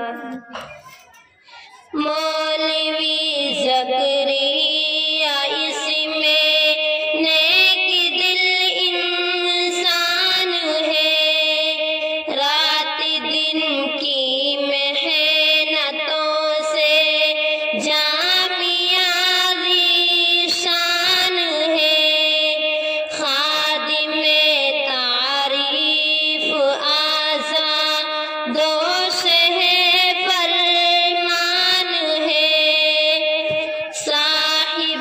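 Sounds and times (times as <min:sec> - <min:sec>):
woman singing slow melody: 0:00.0 - 0:00.7, 0:01.9 - 0:35.0.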